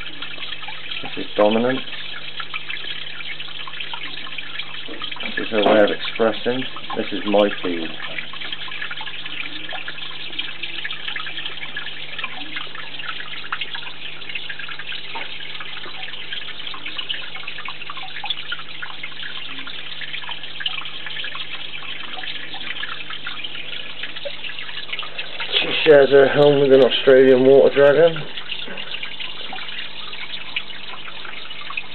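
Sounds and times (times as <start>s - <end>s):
low steady hum: 0.0s - 31.9s
small waterfall trickling: 0.0s - 31.9s.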